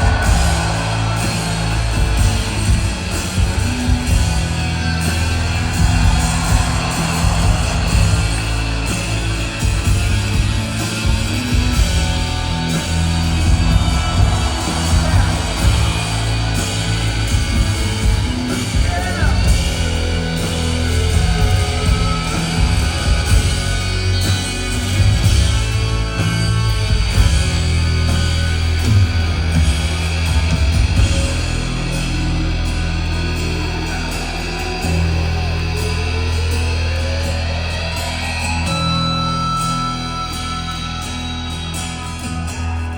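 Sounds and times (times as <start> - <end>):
distorted guitars and bass: 0.0 - 42.9
drums: 0.0 - 42.9
live rock band playing: 0.0 - 42.9.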